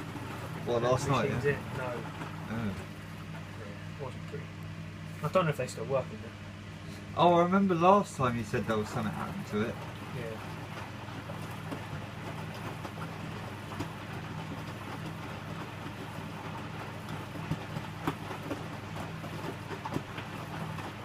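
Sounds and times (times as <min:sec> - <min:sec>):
wash water sloshing: 0:00.0 - 0:04.4, 0:07.5 - 0:21.0
washing machine motor hum: 0:00.0 - 0:21.0.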